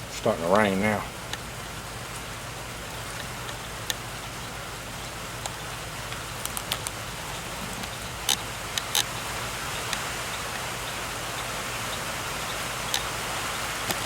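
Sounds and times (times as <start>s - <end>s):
light rain hiss: 0.0s - 14.0s
raindrop ticks: 1.1s - 14.0s.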